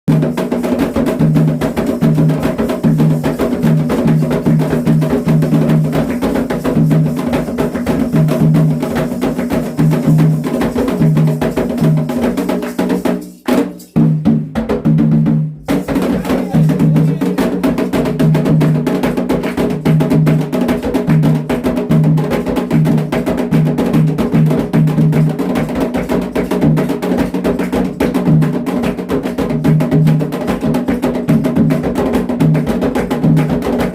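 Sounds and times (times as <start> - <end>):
drums: 0.1 - 33.9.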